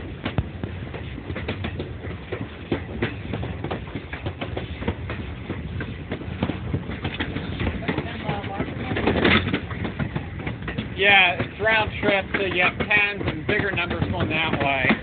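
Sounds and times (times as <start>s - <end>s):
train car rumbling on track: 0.0s - 15.0s
wheels clacking on rails: 0.0s - 15.0s.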